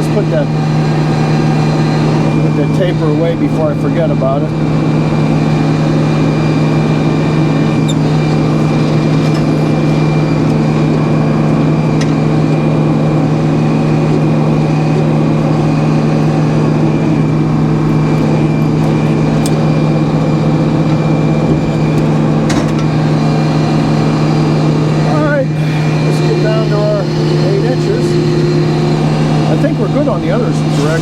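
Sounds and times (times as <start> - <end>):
sawmill engine humming: 0.0 - 31.0.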